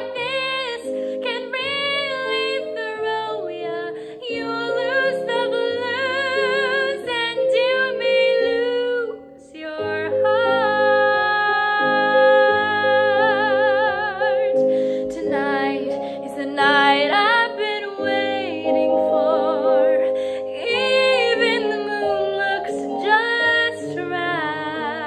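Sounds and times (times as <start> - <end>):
woman singing: 0.0 - 25.0.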